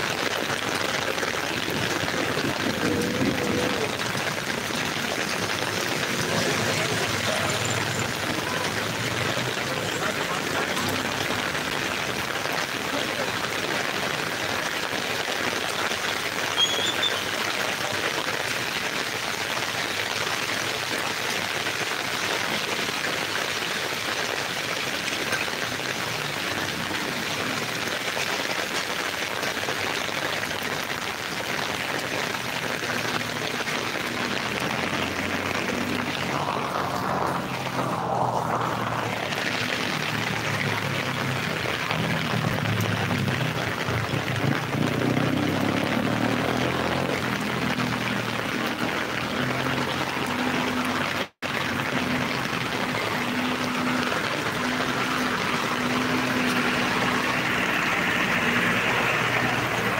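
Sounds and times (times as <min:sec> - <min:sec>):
heavy rain on wet ground: 0:00.0 - 0:59.9
running runoff water: 0:00.0 - 0:59.9.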